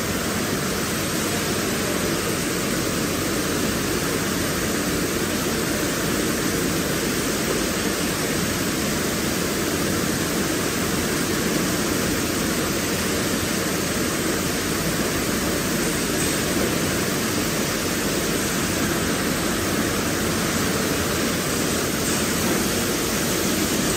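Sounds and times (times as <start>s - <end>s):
steam tunnel rushing noise: 0.0s - 23.9s.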